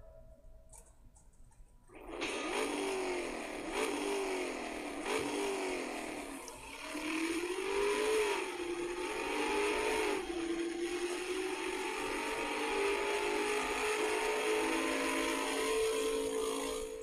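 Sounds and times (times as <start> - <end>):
car engine revving: 1.9 - 17.0.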